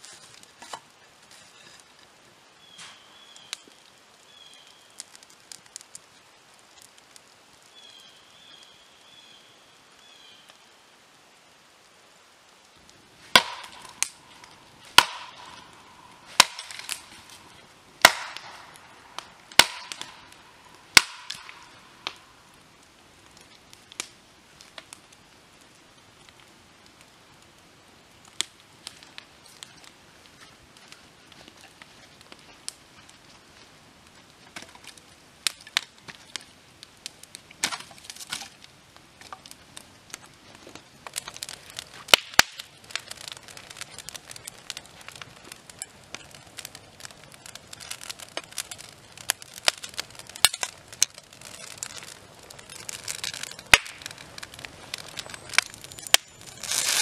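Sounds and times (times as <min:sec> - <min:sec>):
campfire crackling and popping: 0:00.0 - 0:57.0
soft hiss of flames: 0:00.0 - 0:57.0.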